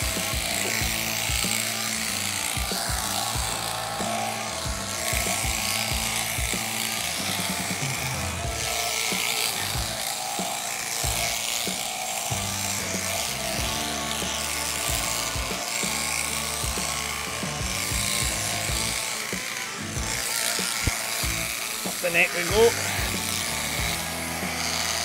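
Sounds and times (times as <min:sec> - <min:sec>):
background music with a beat: 0:00.0 - 0:25.0
electric shears cutting fleece: 0:00.0 - 0:25.0.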